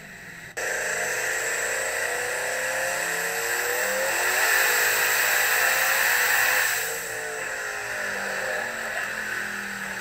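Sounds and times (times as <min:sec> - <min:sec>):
engine revving under full load: 0:00.0 - 0:10.0
strong hissing rush: 0:00.6 - 0:10.0.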